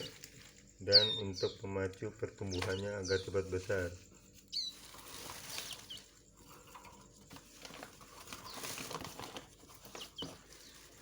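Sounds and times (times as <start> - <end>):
nestling birds cheeping: 0.0 - 11.0
rustling and scratching: 0.0 - 11.0.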